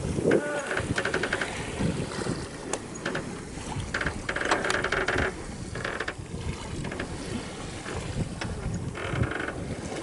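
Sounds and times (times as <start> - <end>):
water noise: 0.0 - 10.0
wind: 0.0 - 10.0.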